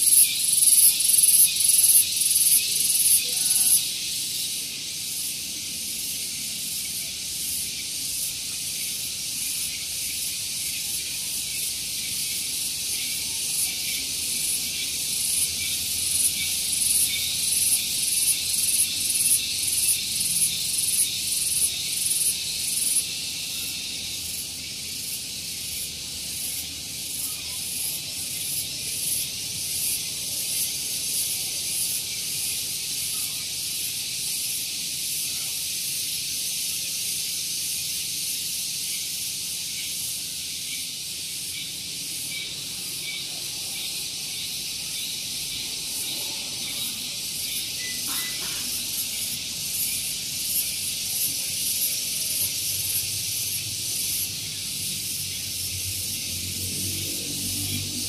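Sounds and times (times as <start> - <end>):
cicadas buzzing: 0.0 - 58.0
loud cicada pulsing: 0.0 - 58.0.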